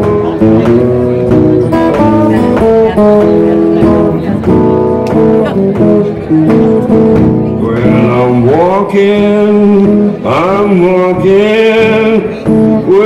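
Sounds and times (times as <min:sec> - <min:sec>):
man singing blues: 0:00.0 - 0:13.0
resonator guitar: 0:00.0 - 0:13.0.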